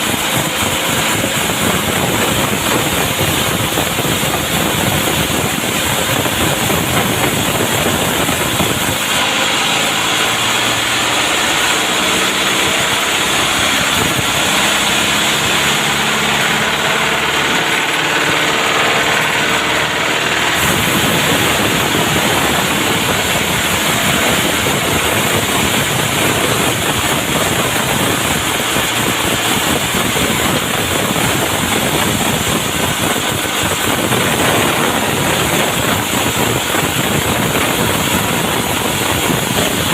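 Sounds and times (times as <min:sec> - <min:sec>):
engine running steadily: 0:00.0 - 0:39.9
lower engine tone: 0:00.0 - 0:39.9.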